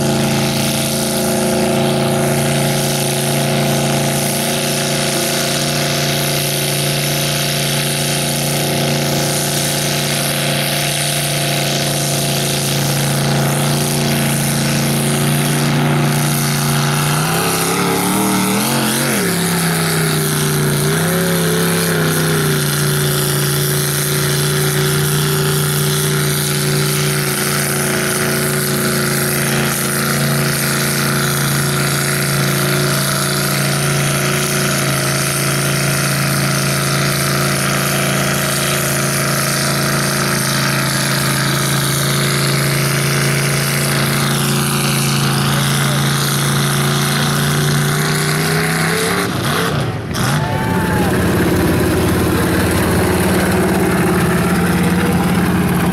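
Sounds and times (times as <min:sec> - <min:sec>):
truck engine running hard: 0:00.0 - 0:55.9.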